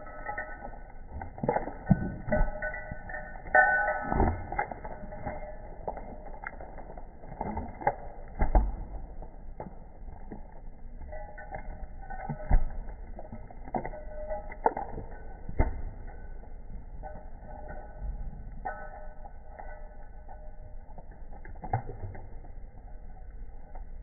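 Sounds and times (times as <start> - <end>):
animal eating clicks and knocks: 0.0 - 18.0, 18.6 - 23.9.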